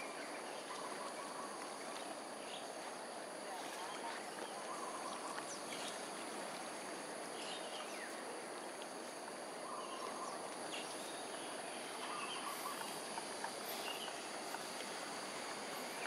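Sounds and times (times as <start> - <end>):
flowing canal water: 0.0 - 16.0.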